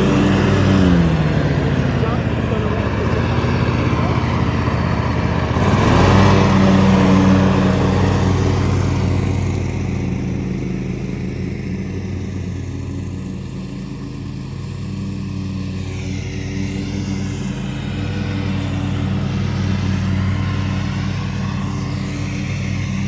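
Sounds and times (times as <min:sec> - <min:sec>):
lawnmower engine running: 0:00.0 - 0:23.0.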